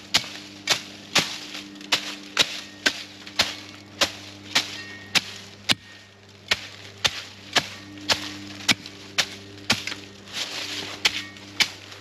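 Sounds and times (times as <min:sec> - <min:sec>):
shovel chopping into ground: 0:00.0 - 0:12.0.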